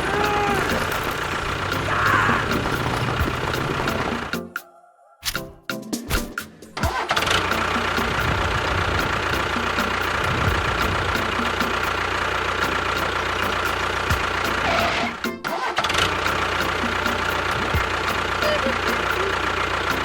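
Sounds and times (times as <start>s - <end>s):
engine cranking and starting: 0.0s - 4.5s, 6.1s - 20.0s.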